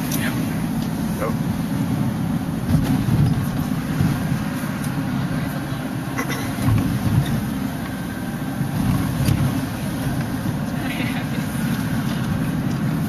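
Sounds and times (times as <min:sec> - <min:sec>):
van engine and tyre rumble: 0:00.0 - 0:13.0.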